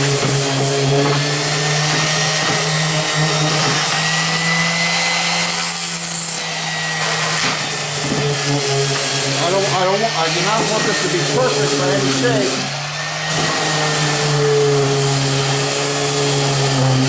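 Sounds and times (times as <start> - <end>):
orbital sander motor hum: 0.0 - 17.0
sanding disc rasping on wood: 0.0 - 17.0.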